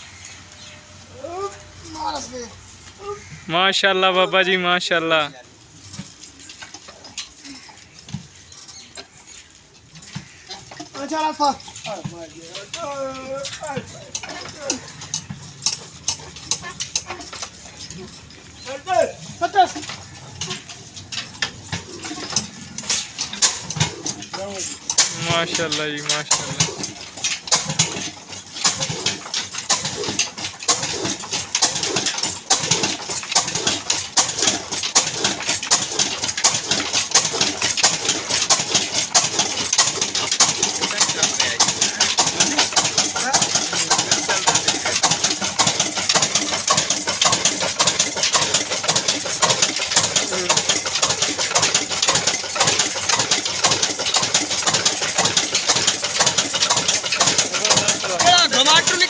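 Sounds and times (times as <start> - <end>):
diesel engine knocking rhythmically: 9.9 - 59.0.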